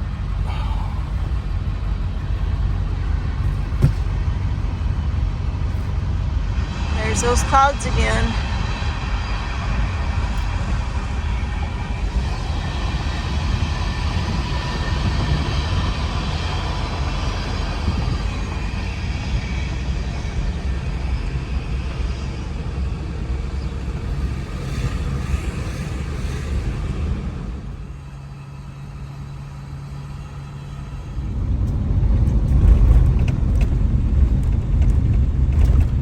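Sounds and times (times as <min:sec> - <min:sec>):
road noise: 0:00.0 - 0:36.0
vehicle engine rumble: 0:00.0 - 0:36.0.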